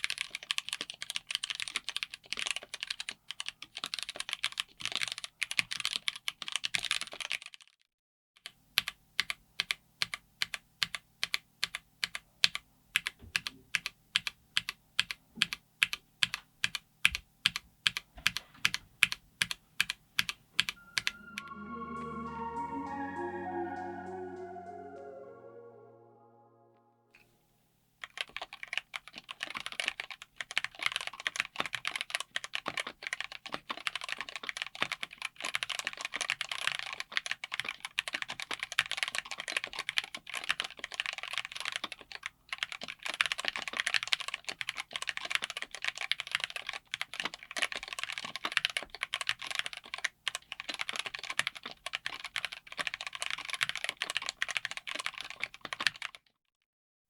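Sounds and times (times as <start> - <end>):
mechanical keyboard typing: 0.0 - 7.8, 8.4 - 20.8, 28.0 - 56.2.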